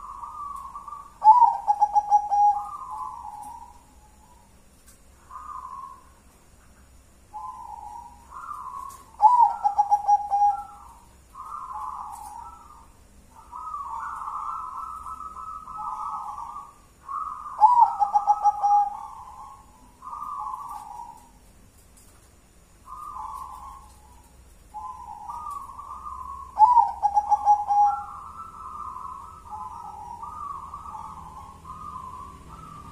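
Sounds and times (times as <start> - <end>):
dove cooing: 0.0 - 4.5, 5.2 - 6.2, 7.3 - 21.4, 22.8 - 32.9.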